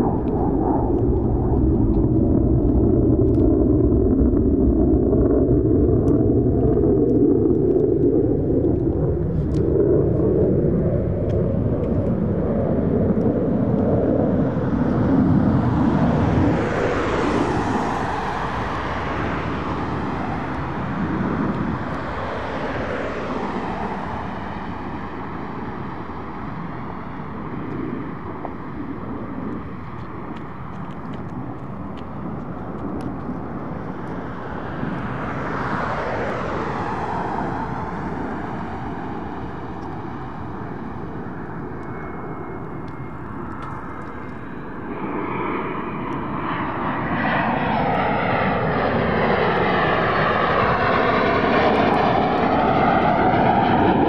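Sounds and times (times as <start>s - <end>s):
jet flying past: 0.0s - 54.0s.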